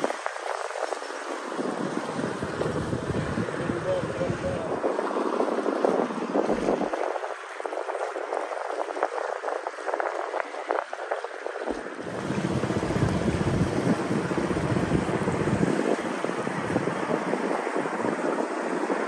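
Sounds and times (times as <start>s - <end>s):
boat engine running: 0.0s - 19.0s
water wash: 0.0s - 19.0s
wind noise on microphone: 0.0s - 19.0s.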